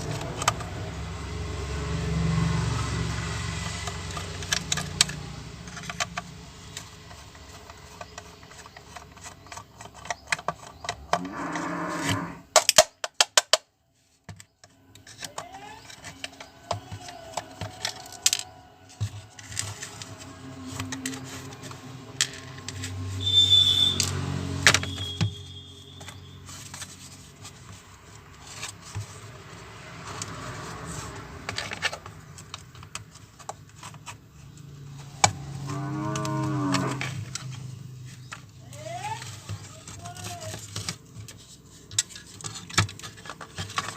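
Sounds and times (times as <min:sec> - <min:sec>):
small tools and plastic rattling: 0:00.0 - 0:01.4, 0:02.6 - 0:43.9.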